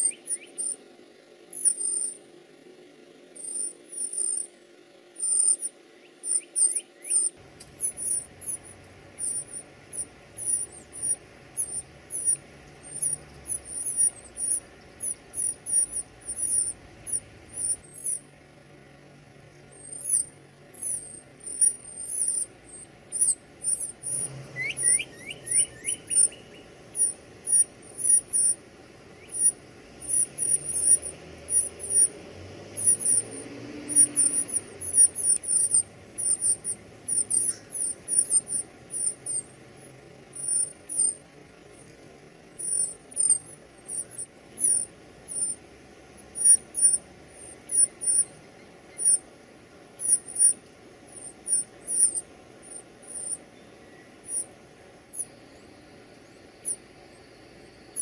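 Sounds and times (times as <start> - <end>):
nestlings high-pitched begging calls: 0.0 - 0.8, 1.5 - 2.2, 3.4 - 4.6, 5.2 - 18.4, 19.0 - 58.0.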